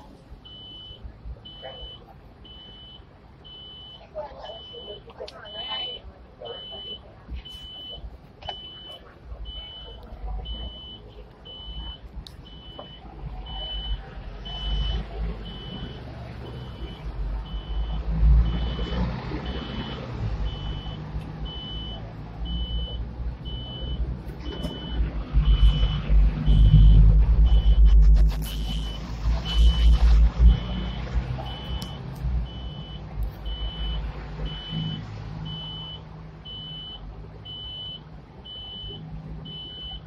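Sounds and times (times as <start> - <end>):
road traffic passing: 0.0 - 40.0
high electronic beeps: 4.6 - 40.0.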